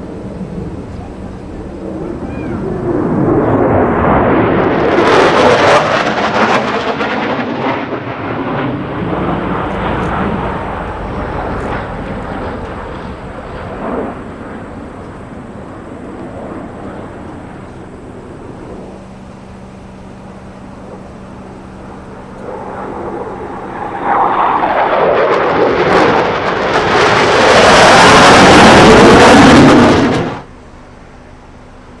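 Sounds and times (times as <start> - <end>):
fighter jet roar passing overhead: 0.0 - 30.5.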